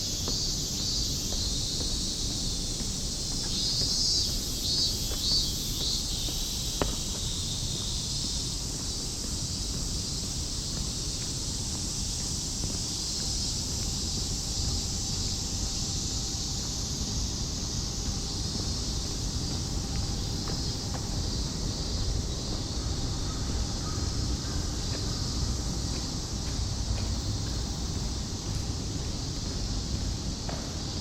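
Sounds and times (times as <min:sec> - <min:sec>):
cicadas shrilling: 0:00.0 - 0:31.0.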